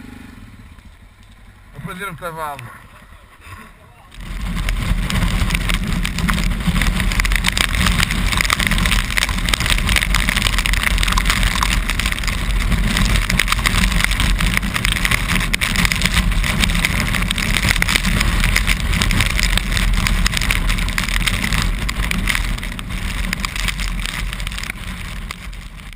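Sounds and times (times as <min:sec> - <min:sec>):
motorcycle engine running: 0:00.0 - 0:03.2, 0:04.2 - 0:25.9
wind and road noise: 0:00.0 - 0:25.9.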